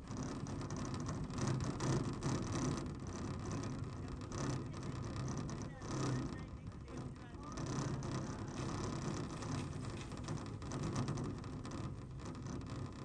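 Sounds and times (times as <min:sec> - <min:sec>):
chairlift cable running: 0:00.0 - 0:13.0.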